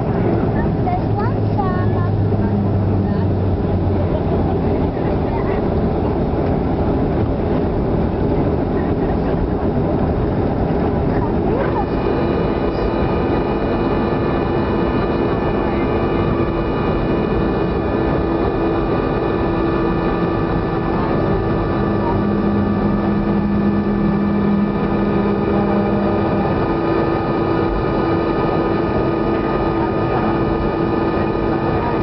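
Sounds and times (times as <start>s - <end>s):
jet engines running: 0.0s - 32.0s
lower hum: 0.0s - 32.0s.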